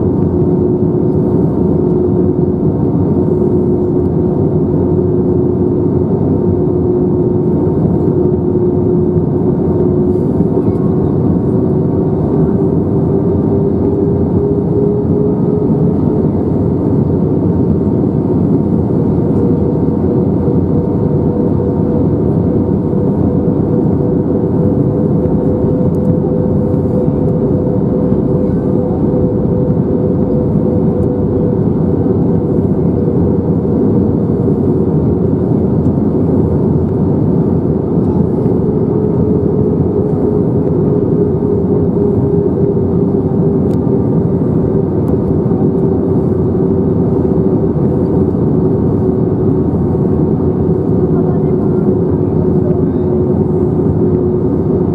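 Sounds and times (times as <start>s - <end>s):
jet engine drone: 0.0s - 54.9s.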